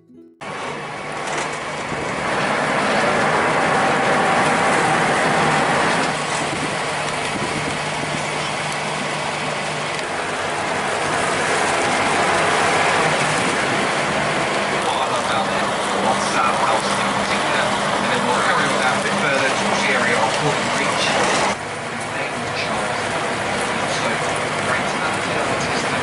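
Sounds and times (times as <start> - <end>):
low boat engine hum: 0.0 - 26.0
rush of wind and water: 0.7 - 21.9, 22.5 - 26.0.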